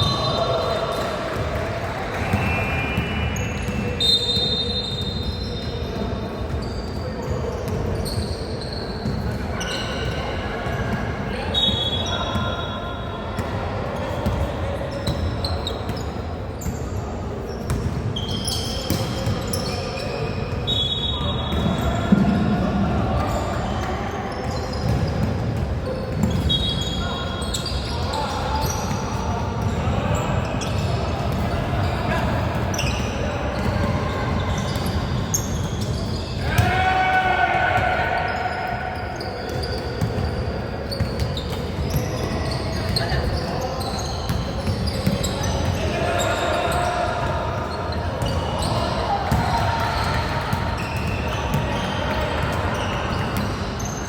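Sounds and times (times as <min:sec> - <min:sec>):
crowd and court noise: 0:00.0 - 0:54.0
sneakers squeaking: 0:00.0 - 0:54.0.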